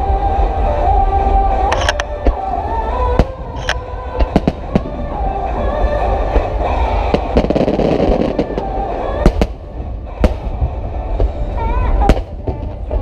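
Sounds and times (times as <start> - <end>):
deep continuous rumble: 0.0 - 13.0
music playing: 0.0 - 13.0
fireworks bangs: 2.3 - 13.0.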